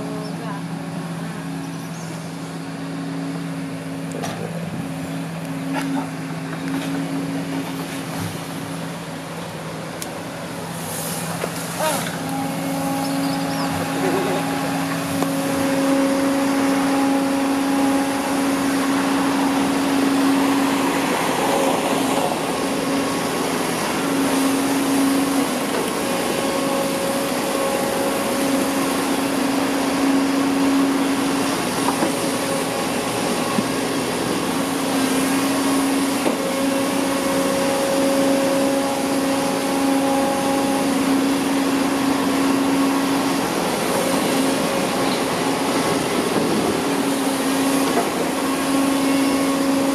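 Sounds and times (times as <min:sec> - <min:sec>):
excavator diesel engine: 0:00.0 - 0:49.9
humming hydraulic whine: 0:00.0 - 0:49.9.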